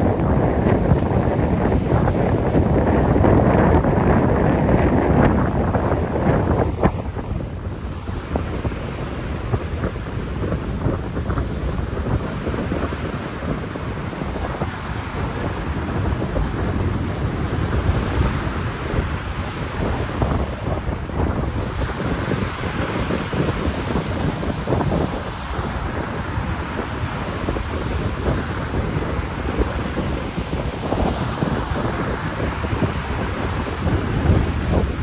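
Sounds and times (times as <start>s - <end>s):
choppy sea washing: 0.0s - 35.0s
strong wind buffeting microphone: 0.0s - 35.0s.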